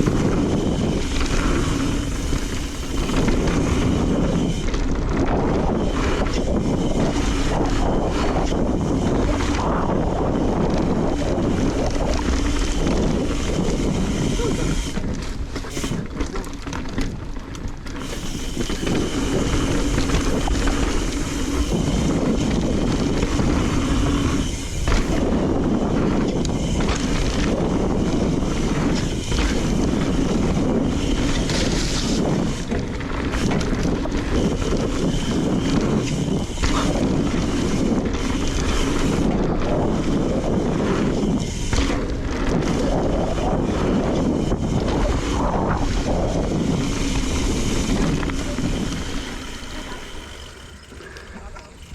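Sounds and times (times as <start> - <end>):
bike rolling on rough trail: 0.0 - 51.9
wind rushing over microphone: 0.0 - 51.9.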